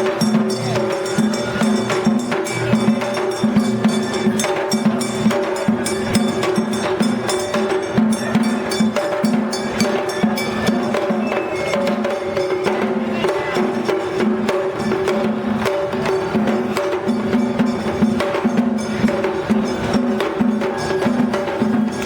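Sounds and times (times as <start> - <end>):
rapid drumming: 0.0 - 22.0.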